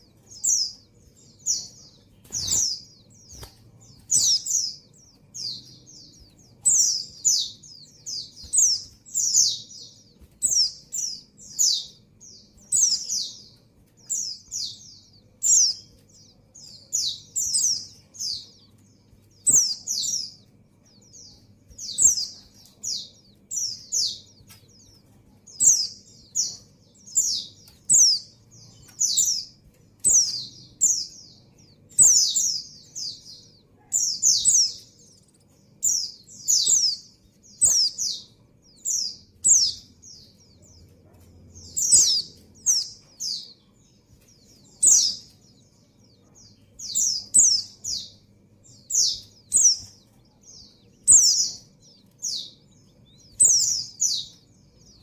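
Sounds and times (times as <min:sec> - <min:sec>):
high downward-sweeping bird chirps: 0:00.0 - 0:55.0.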